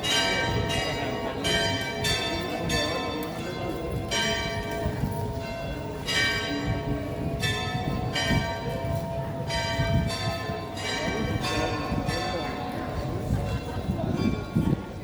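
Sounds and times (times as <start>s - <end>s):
church bells ringing: 0.0s - 14.6s.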